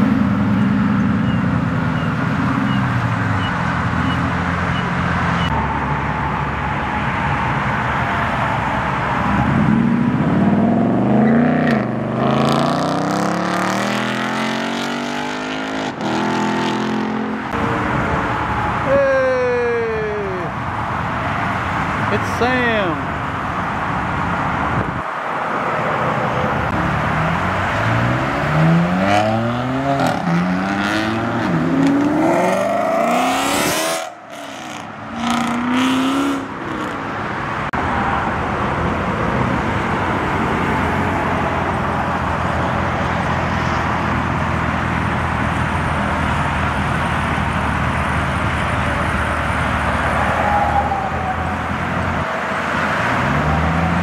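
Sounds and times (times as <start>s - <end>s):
car engines accelerating hard: 0.0s - 54.0s.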